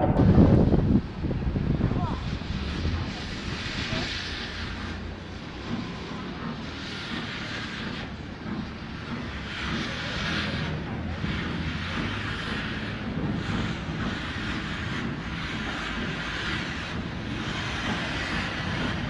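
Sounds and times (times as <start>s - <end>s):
hissing surges: 0.0s - 19.0s
locomotive rumbling: 0.0s - 19.0s.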